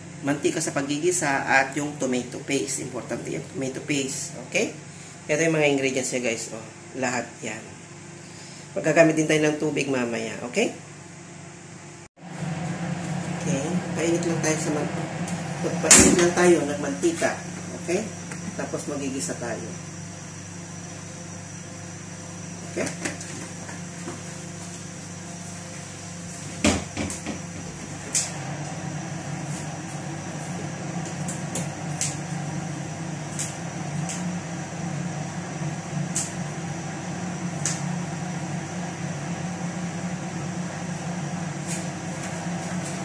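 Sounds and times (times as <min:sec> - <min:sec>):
gas stove burner running: 0:07.8 - 0:43.0.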